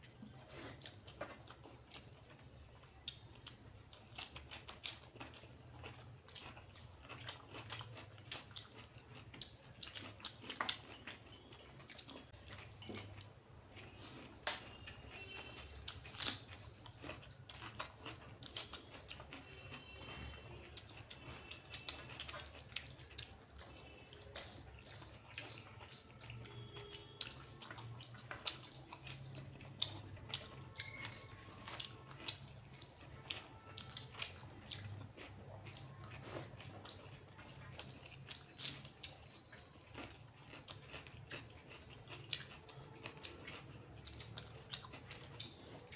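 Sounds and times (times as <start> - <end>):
person chewing with wet mouth noises: 0.0 - 45.9.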